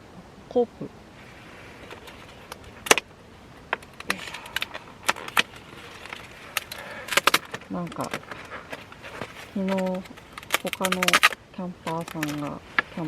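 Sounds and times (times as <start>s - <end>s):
plastic packaging clicks and crinkles: 1.2s - 13.0s.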